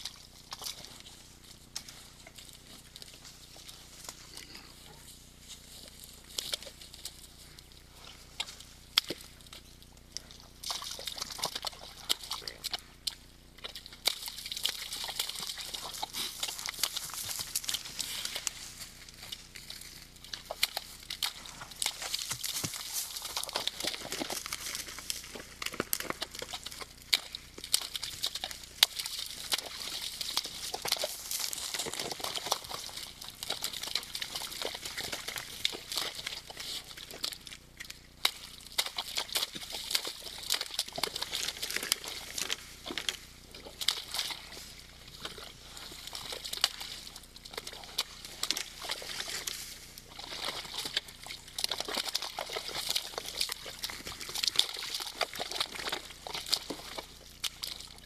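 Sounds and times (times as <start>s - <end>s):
deer splashing in mud: 0.0s - 58.0s
mud and water sloshing: 0.0s - 58.0s
small splashes and squelches: 0.0s - 58.0s.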